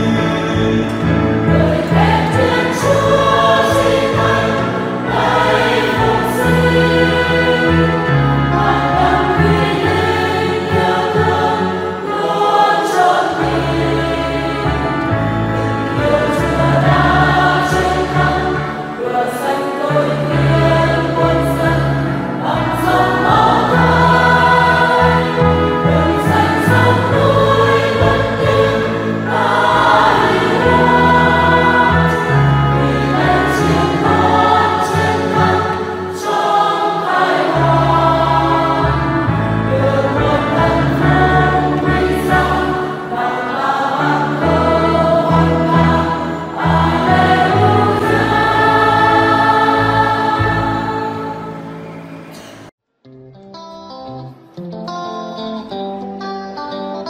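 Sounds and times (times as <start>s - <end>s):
church choir singing a hymn: 0.0s - 52.7s
low held accompaniment notes: 0.0s - 52.7s.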